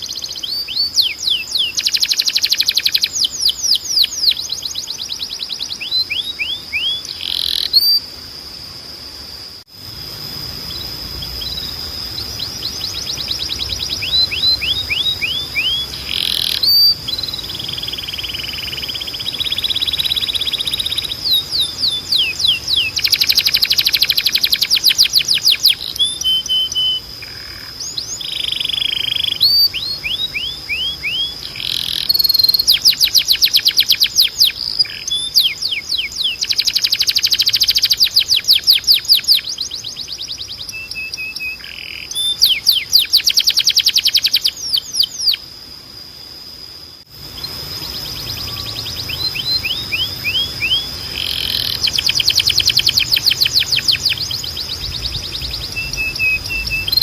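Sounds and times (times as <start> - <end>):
canary singing trills: 0.0 - 8.3, 9.8 - 45.5, 47.1 - 57.0.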